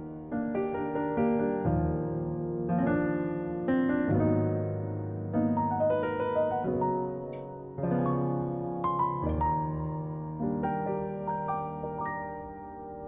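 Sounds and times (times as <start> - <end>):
soft slow piano piece: 0.0 - 13.0.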